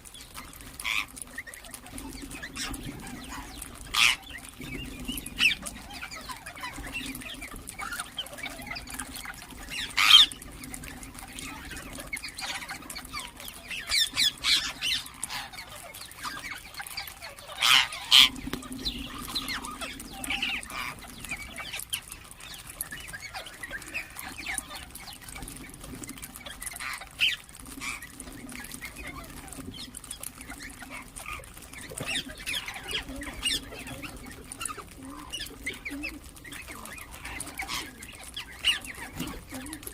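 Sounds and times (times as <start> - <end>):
parakeets chirping softly: 0.0 - 39.9
parakeets screeching: 0.1 - 39.9.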